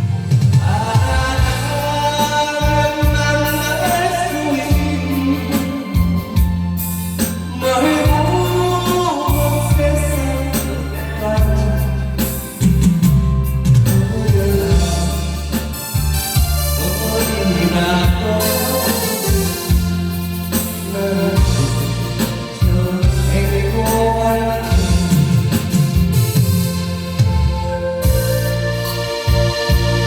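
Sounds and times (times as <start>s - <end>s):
instrumental accompaniment with bass: 0.0s - 30.0s
person singing with sliding notes: 0.0s - 30.0s.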